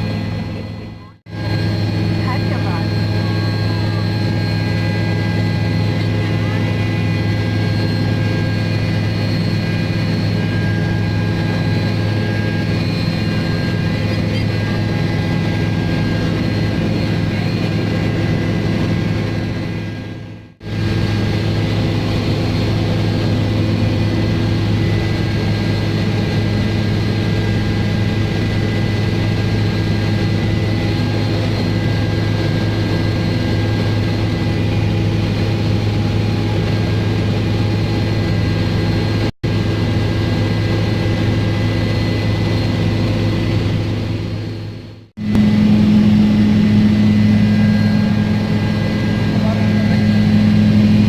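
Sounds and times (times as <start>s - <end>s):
helicopter engine drone: 0.0s - 51.0s
high turbine whine: 0.0s - 51.0s.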